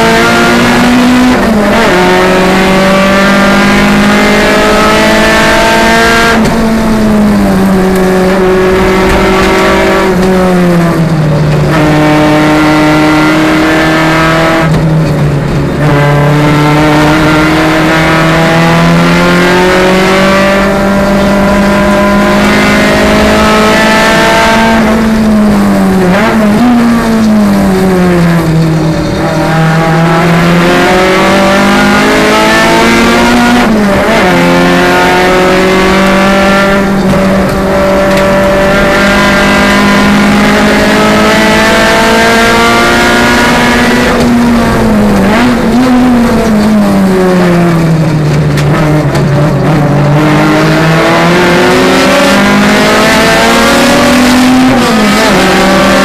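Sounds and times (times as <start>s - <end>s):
engine throttle blips: 0.0s - 56.0s
race car engine at high revs: 0.0s - 56.0s.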